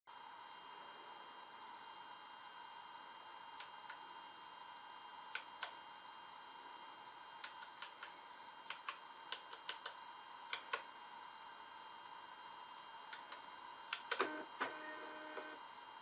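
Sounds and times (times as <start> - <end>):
faint steady hum: 0.1 - 16.0.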